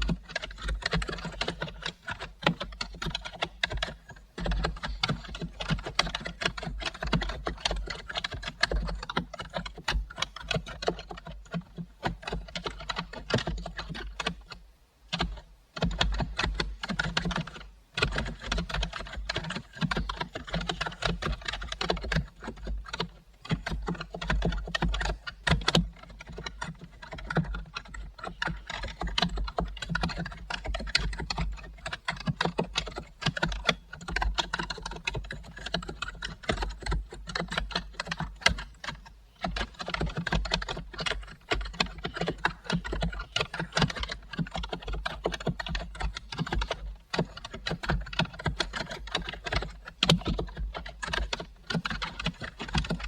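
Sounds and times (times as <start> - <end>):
computer keyboard typing: 0.0 - 53.0.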